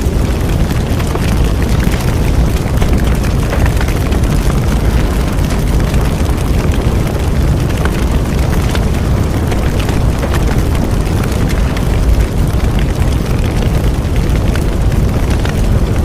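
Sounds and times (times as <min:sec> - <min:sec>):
bonfire low rumble: 0:00.0 - 0:16.0
fire crackles and snaps: 0:00.0 - 0:16.0.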